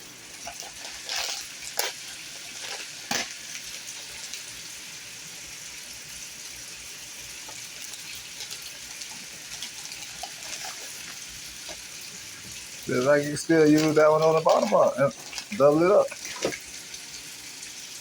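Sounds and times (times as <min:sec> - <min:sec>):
oil sizzling in a pan: 0:00.0 - 0:18.0.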